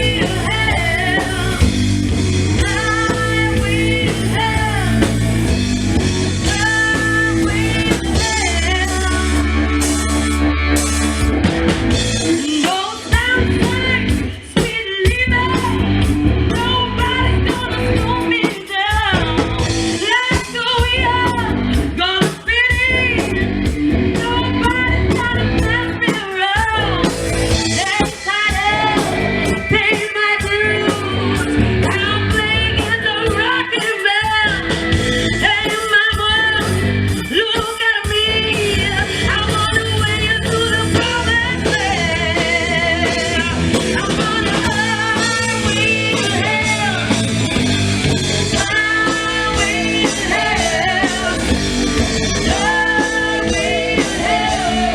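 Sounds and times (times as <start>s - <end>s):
lead singer singing: 0.0s - 11.2s, 11.9s - 54.9s
live band playing: 0.0s - 54.9s.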